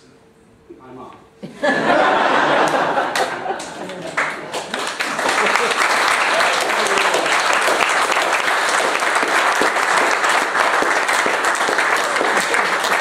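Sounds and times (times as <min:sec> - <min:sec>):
crowd clapping: 0:02.4 - 0:13.0.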